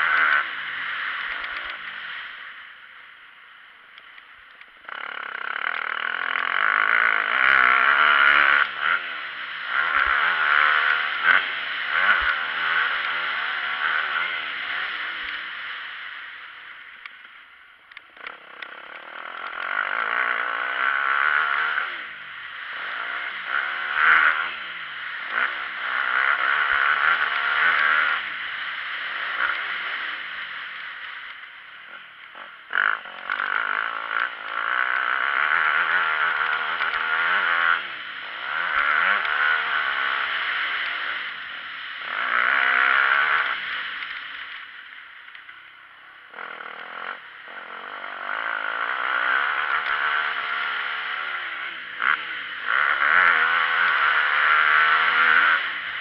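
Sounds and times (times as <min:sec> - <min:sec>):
motocross bike engine revving: 0:00.0 - 0:02.8, 0:04.0 - 0:17.0, 0:17.9 - 0:56.0.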